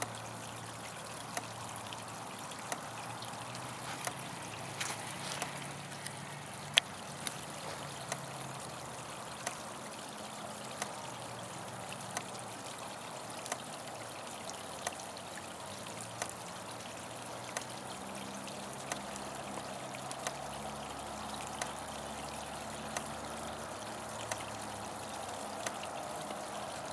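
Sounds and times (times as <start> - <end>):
water trickling: 0.0 - 26.9.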